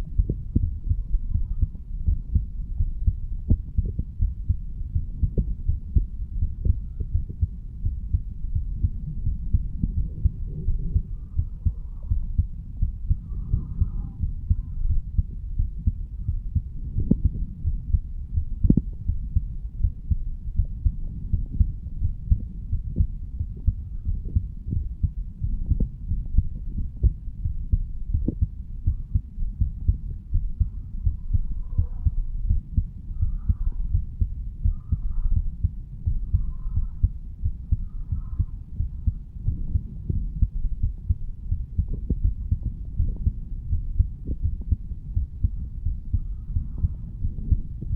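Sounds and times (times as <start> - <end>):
low-pitched heartbeat: 0.0 - 47.9.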